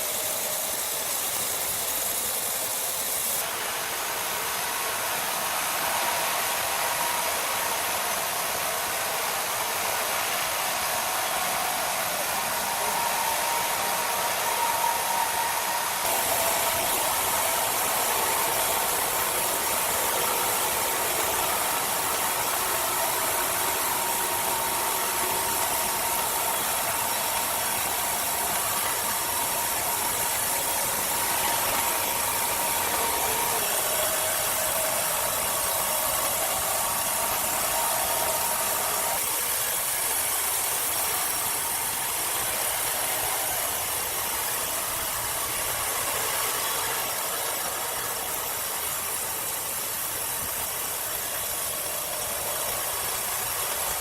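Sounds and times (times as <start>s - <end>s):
machine motor whining: 0.0s - 54.0s.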